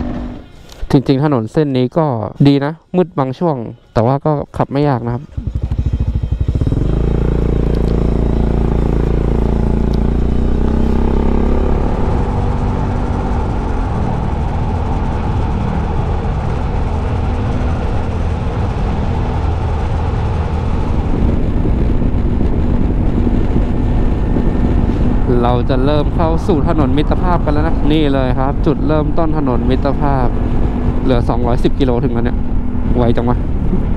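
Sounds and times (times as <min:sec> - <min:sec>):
wind and road noise: 0:00.0 - 0:02.7, 0:03.4 - 0:33.9
scooter engine running: 0:05.2 - 0:33.9.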